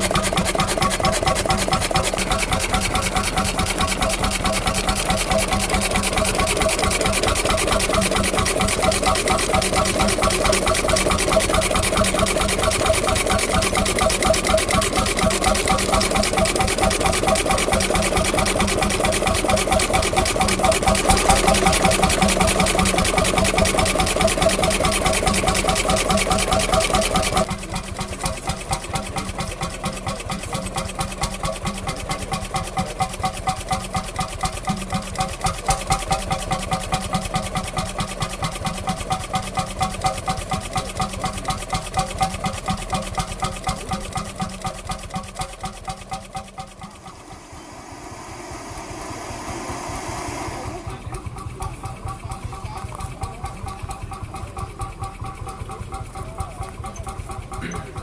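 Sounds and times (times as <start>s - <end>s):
engine running with even beat: 0.0s - 58.0s.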